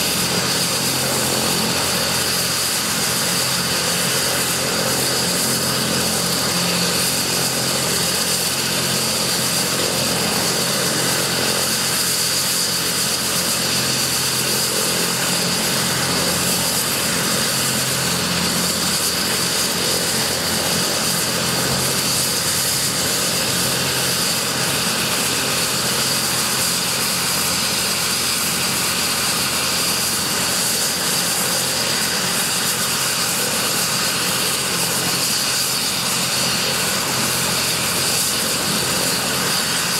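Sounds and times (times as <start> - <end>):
helicopter turbine engine whine: 0.0 - 39.9.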